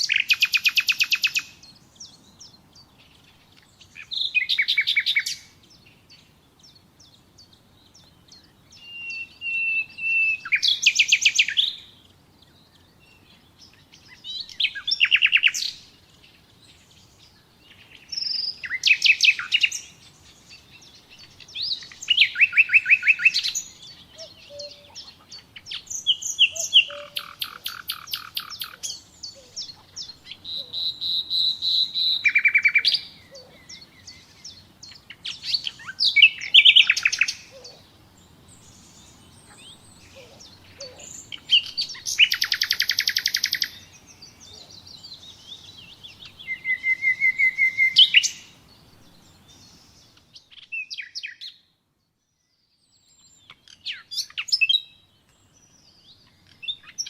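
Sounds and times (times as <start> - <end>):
faint background hiss: 0.0 - 57.0
nightingale singing: 0.0 - 57.0.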